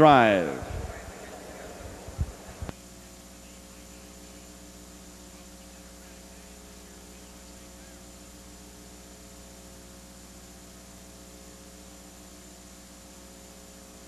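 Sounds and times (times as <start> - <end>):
electrical mains hum and buzz: 0.0 - 14.0.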